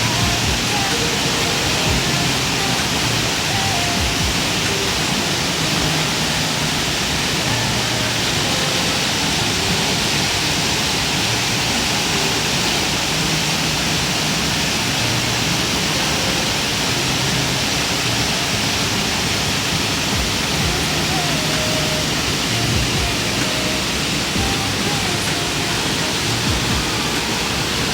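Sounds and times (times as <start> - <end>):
stream rushing over rocks: 0.0 - 27.9.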